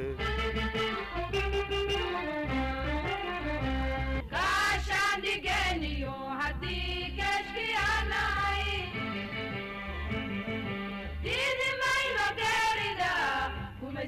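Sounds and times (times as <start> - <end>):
music with singing voice: 0.0 - 14.0.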